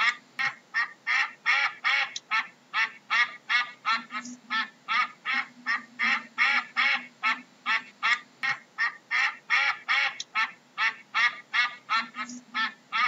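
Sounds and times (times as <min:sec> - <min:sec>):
duck quacking: 0:00.0 - 0:13.0.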